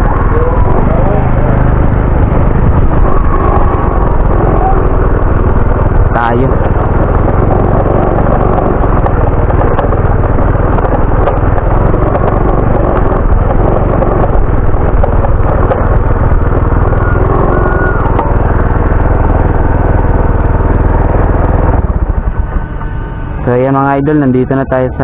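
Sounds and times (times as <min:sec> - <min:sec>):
small motorcycle engine running: 0:00.0 - 0:25.0.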